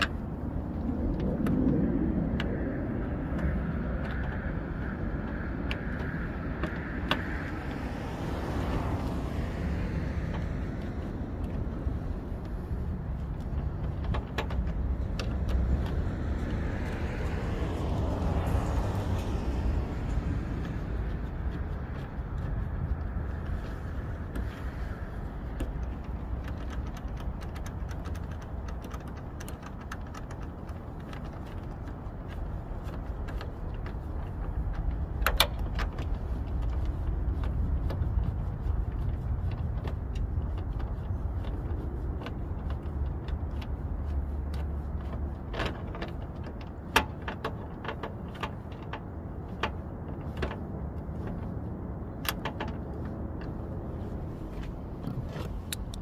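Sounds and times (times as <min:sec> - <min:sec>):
steady low rumble: 0:00.0 - 0:56.0.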